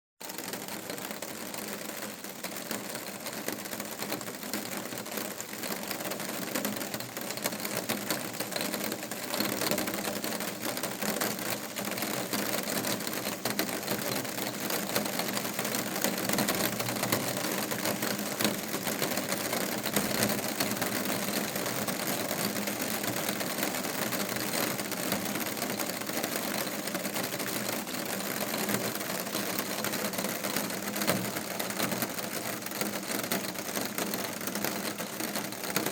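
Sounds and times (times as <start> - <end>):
rain on a hard surface: 0.2 - 35.9.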